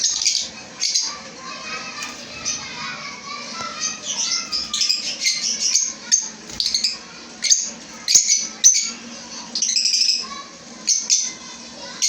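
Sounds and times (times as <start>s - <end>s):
lovebirds chirping: 0.0s - 10.2s.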